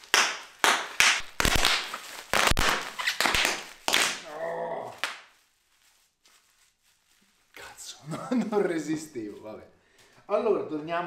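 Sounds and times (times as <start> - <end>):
bubble wrap popping: 0.0 - 9.6.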